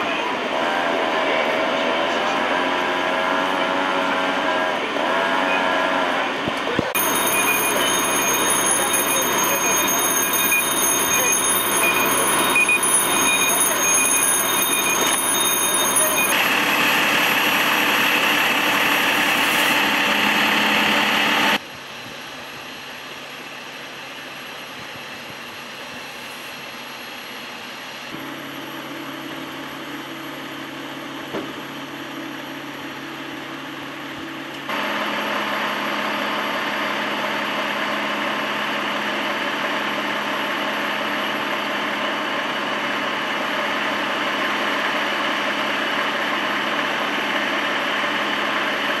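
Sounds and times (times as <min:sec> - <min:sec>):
large engine humming: 0:00.0 - 0:49.0.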